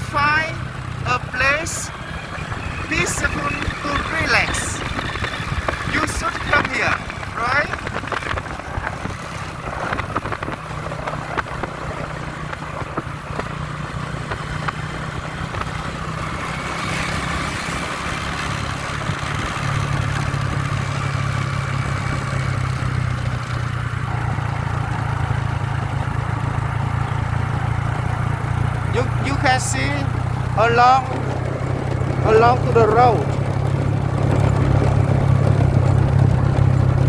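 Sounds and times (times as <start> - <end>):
motorbike engine running: 0.0 - 37.0.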